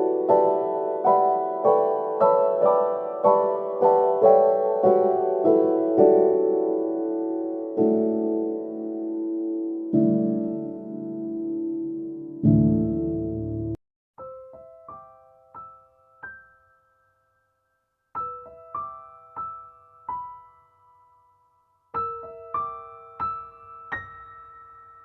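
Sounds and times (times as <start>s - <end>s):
gentle electric piano: 0.0s - 16.6s, 18.2s - 20.6s, 21.9s - 25.0s.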